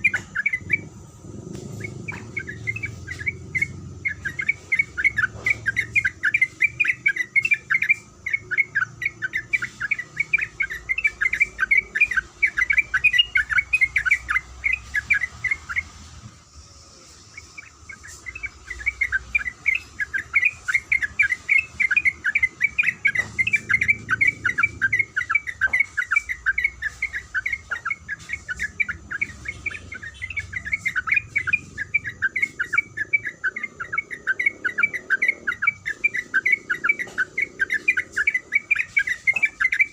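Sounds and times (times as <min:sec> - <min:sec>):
bird chattering calls: 0:00.0 - 0:16.0, 0:17.0 - 0:39.9.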